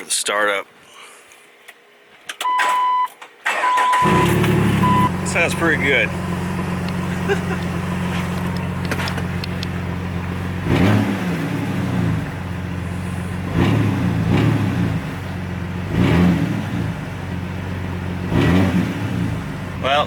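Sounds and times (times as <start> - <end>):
unmuffled engine idling and revving: 3.7 - 20.0.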